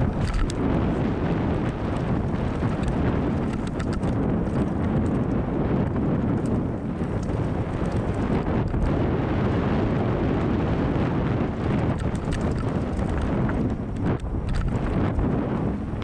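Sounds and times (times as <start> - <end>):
bike rattling over bumps: 0.0 - 16.0
bike tyres rumbling on dirt: 0.0 - 16.0.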